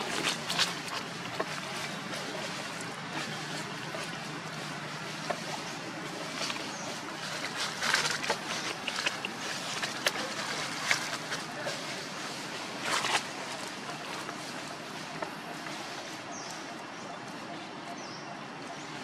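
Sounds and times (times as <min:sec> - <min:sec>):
dry leaves rustling: 0:00.0 - 0:18.1
outdoor background noise: 0:00.0 - 0:19.0.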